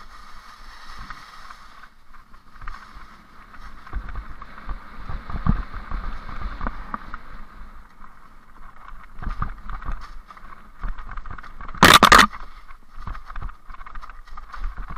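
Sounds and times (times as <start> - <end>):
bicycle rolling on rough trail: 0.0 - 14.9
bike rattles and knocks: 0.0 - 14.9.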